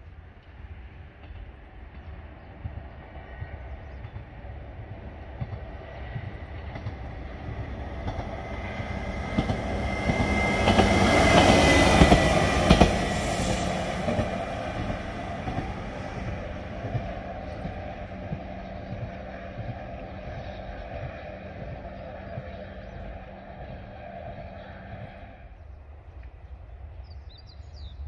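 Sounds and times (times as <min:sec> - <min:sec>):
diesel railcar passing: 0:00.0 - 0:28.0.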